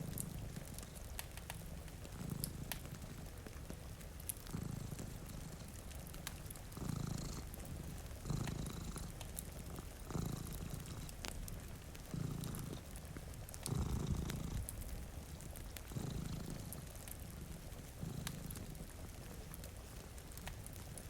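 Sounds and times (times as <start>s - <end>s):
cat purring: 0.0s - 21.0s
wood fire crackling: 0.0s - 21.0s.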